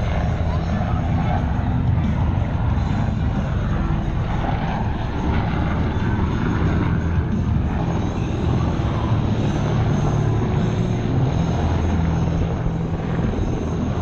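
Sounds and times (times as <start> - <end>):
military aircraft flying low: 0.0 - 14.0.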